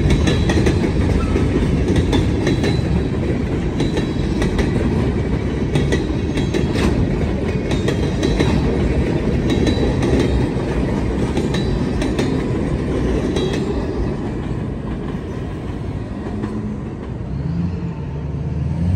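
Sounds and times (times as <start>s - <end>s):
train wheels clacking on rails: 0.0s - 17.4s.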